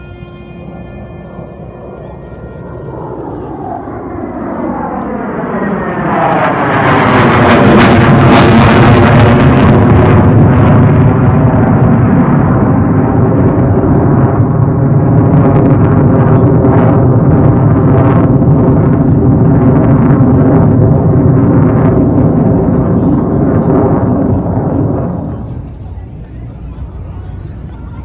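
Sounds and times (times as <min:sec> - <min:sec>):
jet fighter engine roaring past: 0:00.0 - 0:28.0.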